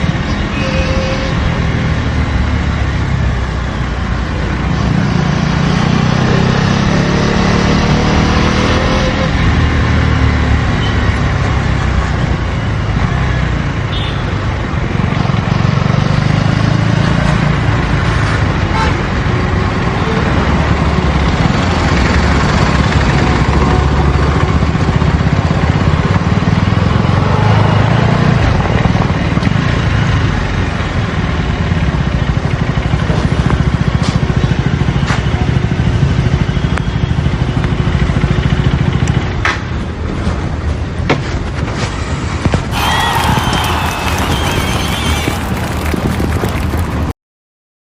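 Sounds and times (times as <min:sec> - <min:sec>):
motorcycle engine while riding: 0:01.4 - 0:42.4.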